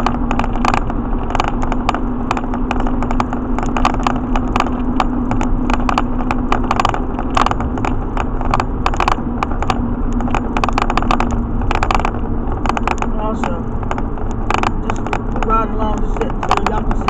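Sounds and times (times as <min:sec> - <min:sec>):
constant hum: 0:00.0 - 0:17.0
light rattles and clicks: 0:00.0 - 0:17.0
truck road and engine drone: 0:00.0 - 0:17.0.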